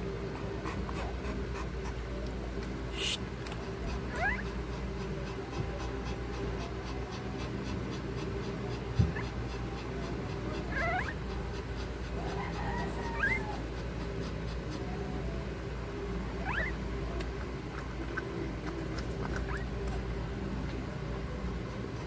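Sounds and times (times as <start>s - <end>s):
steady low hum: 0.0s - 22.0s
dog whimpering: 0.2s - 2.2s, 3.0s - 22.0s.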